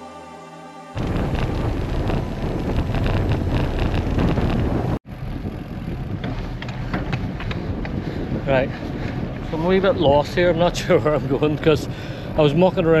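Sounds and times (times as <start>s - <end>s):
bike tyres rolling on road: 1.0s - 13.0s
wind buffeting microphone: 1.0s - 13.0s.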